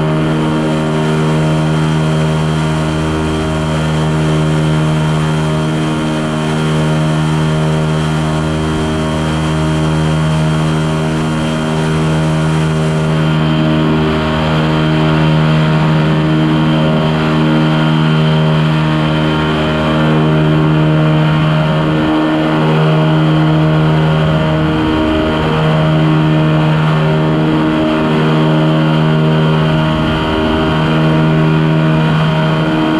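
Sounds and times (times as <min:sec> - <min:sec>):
ultralight aircraft engine drone: 0:00.0 - 0:32.9.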